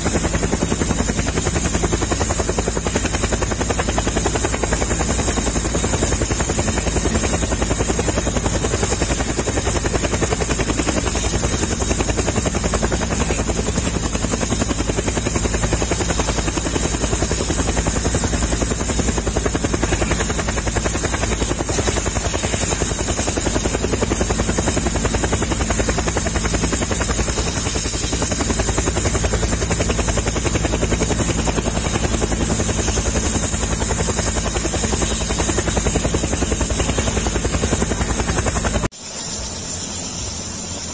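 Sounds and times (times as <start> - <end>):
helicopter rotor blades chopping: 0.0 - 40.9.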